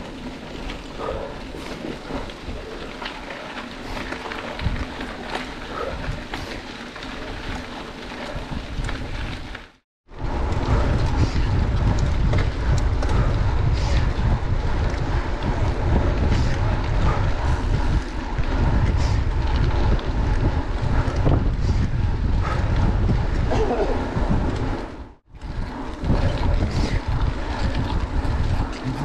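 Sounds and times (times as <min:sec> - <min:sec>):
bike tyres rolling: 0:00.0 - 0:29.0
wind buffeting microphone: 0:00.0 - 0:29.0.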